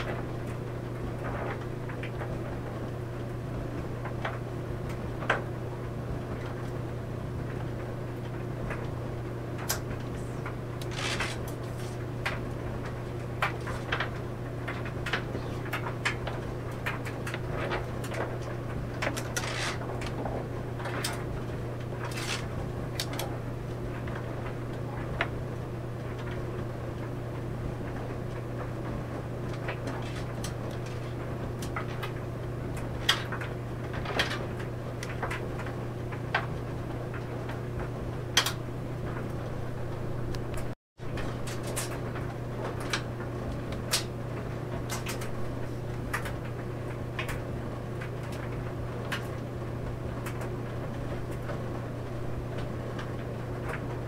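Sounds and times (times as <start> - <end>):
clothes dryer humming: 0.0 - 54.0.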